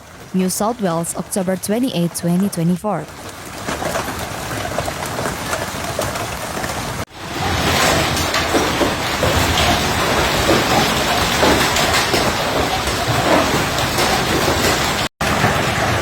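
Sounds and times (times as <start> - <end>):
hail and heavy rain pelting: 3.1 - 16.0.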